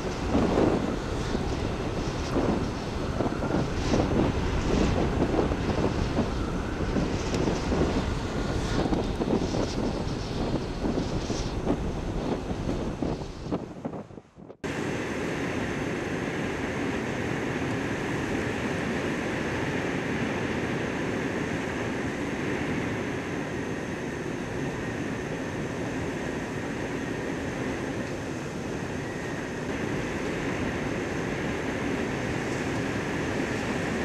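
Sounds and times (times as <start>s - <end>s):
blizzard wind roaring: 0.0s - 34.0s
wind buffeting microphone: 0.0s - 34.0s.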